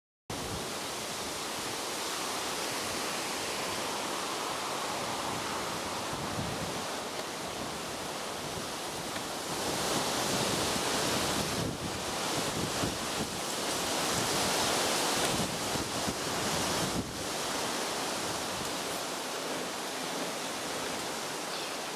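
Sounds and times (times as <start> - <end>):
wind blowing across microphone: 0.3 - 21.9.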